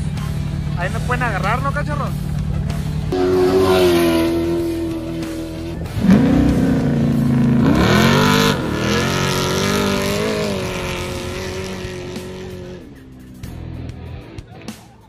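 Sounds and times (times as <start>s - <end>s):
race vehicle engine revving: 0.0s - 14.3s.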